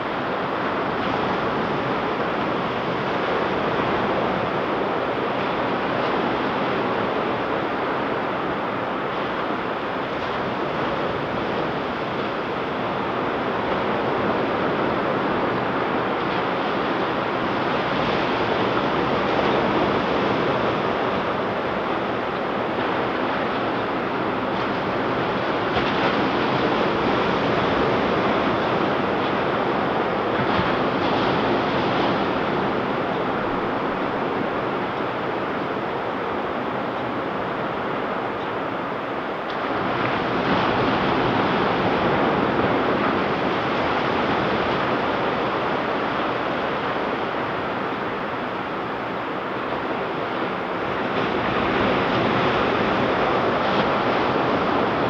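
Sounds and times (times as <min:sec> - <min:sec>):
wind on microphone: 0:00.0 - 0:55.0
ocean waves breaking: 0:00.1 - 0:55.0.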